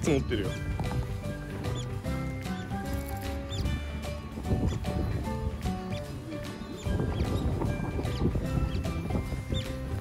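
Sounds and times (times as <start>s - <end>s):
background music: 0.0s - 10.0s
otters chirping: 0.0s - 10.0s.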